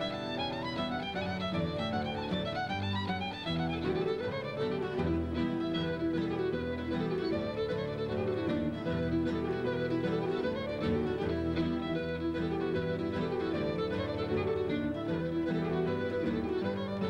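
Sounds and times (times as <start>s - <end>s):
fiddle playing a tune: 0.0s - 17.0s.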